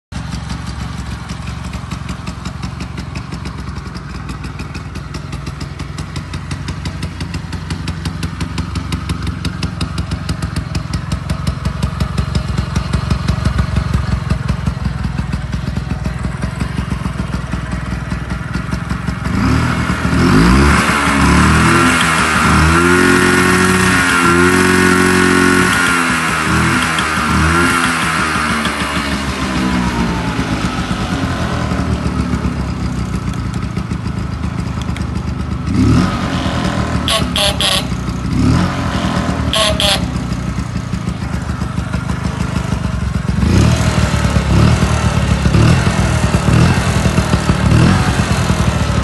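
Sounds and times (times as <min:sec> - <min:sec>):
scooter engine idling and revving: 0:00.1 - 0:49.0.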